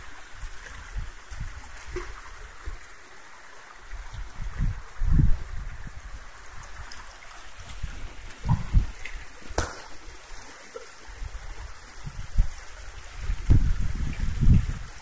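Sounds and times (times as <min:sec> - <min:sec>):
stream water rushing through sluice: 0:00.0 - 0:15.0.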